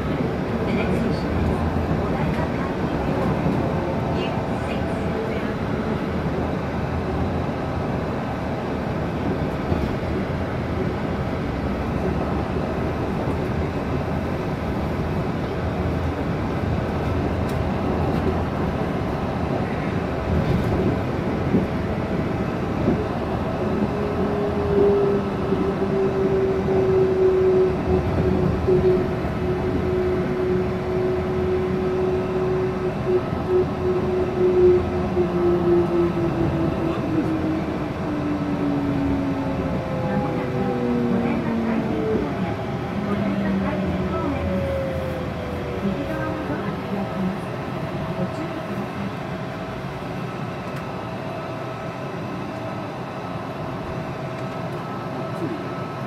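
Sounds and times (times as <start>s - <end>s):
train rumbling on guideway: 0.0s - 56.0s.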